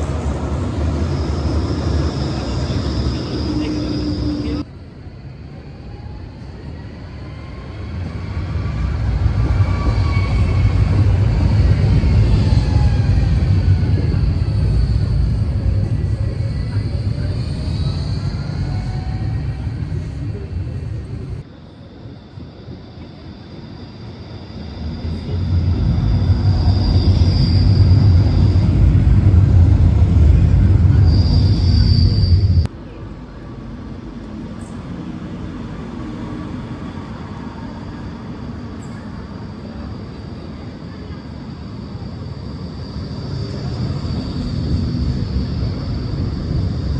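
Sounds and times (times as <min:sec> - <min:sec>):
train rumbling: 0:00.0 - 0:46.9.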